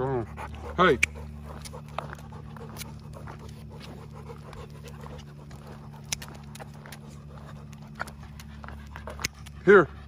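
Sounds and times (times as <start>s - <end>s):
dog panting: 0.0s - 10.0s
steady low hum: 0.0s - 10.0s.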